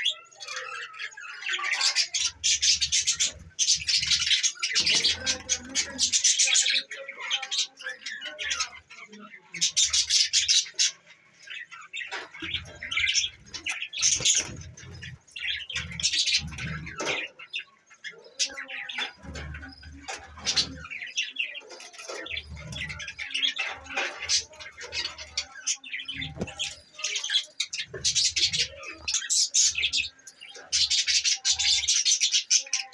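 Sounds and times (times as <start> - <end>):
budgerigars chattering: 0.0 - 32.9.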